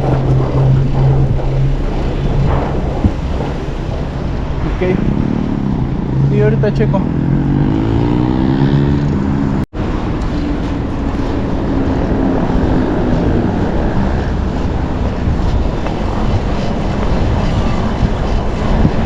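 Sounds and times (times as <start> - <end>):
street traffic noise: 0.0 - 19.0
wind buffeting microphone: 0.0 - 19.0.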